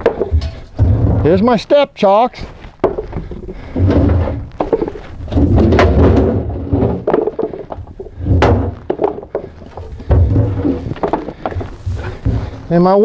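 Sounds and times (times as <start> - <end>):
wooden blocks thudding and clattering: 0.0 - 1.6, 2.4 - 13.0.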